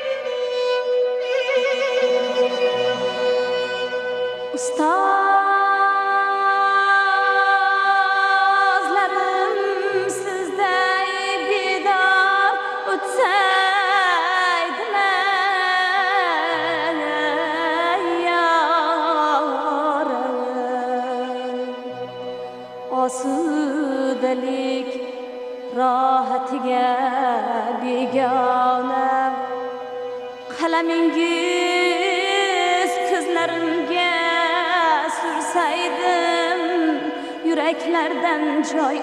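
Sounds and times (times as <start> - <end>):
instrumental accompaniment: 0.0 - 39.0.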